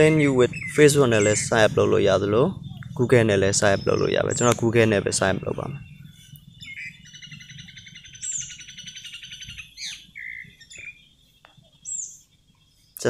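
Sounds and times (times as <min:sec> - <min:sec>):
bird trilling and chirping: 0:00.0 - 0:13.0.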